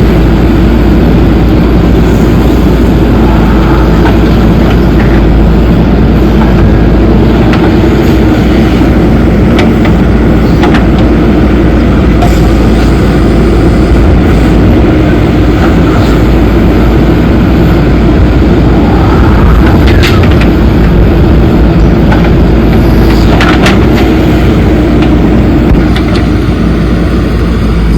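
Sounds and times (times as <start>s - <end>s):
diesel machinery engine rumble: 0.0s - 27.9s.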